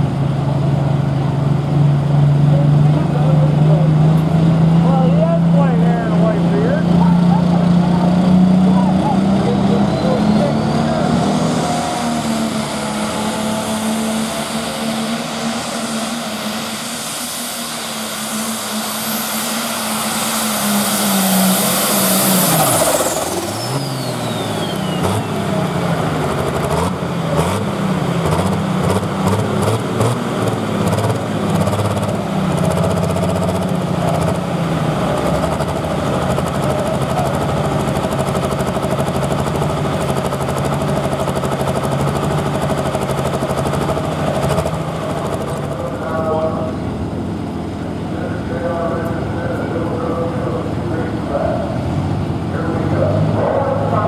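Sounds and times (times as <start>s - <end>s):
high engine whine: 0.0s - 54.0s
tractor engine running under load: 0.0s - 54.0s.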